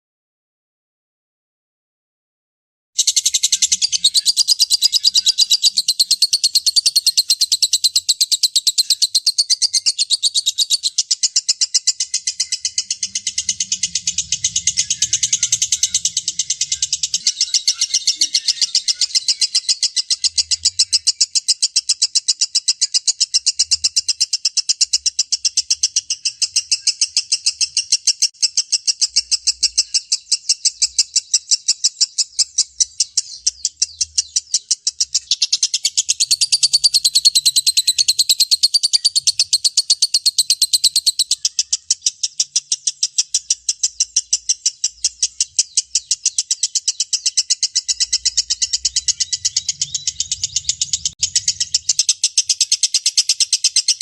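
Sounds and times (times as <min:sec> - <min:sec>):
bird high-pitched chattering: 0:03.0 - 0:54.0
bird warbling twitter: 0:03.0 - 0:54.0.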